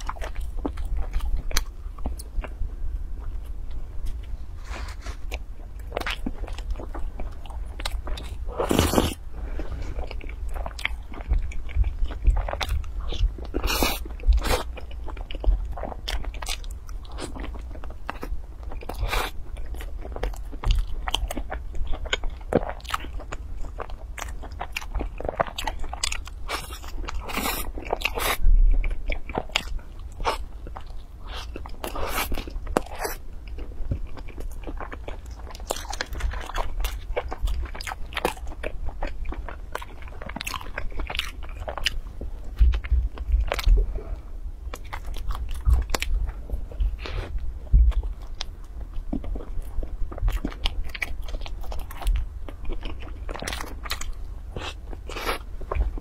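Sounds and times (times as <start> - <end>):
crunchy biting and chewing: 4.0 - 43.9, 44.7 - 56.0.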